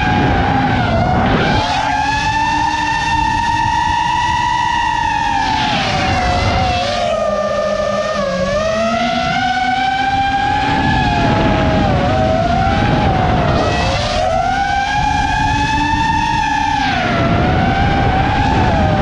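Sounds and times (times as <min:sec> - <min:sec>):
drone propellers whining: 0:00.0 - 0:19.0
wind rumble on microphone: 0:00.0 - 0:19.0.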